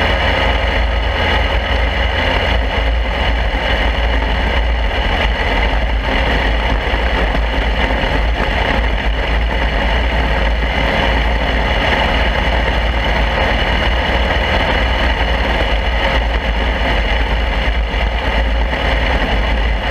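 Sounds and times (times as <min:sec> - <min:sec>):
race car engine running: 0:00.0 - 0:19.9
wind rumble on microphone: 0:00.0 - 0:19.9.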